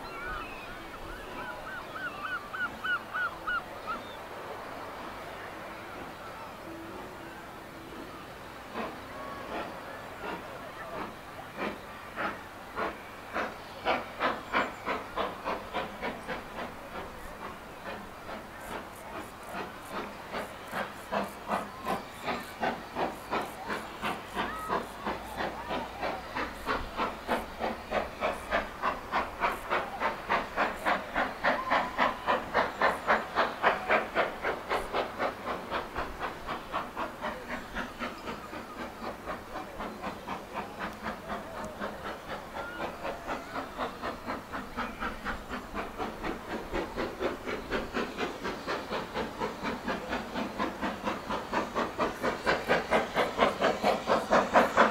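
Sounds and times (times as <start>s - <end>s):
steam locomotive chuffing: 0.0s - 54.9s.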